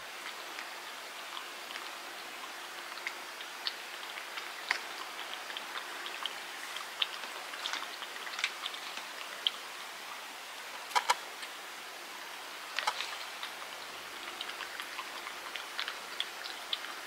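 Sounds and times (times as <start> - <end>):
cat lapping and chewing: 0.1 - 11.7, 12.3 - 17.0.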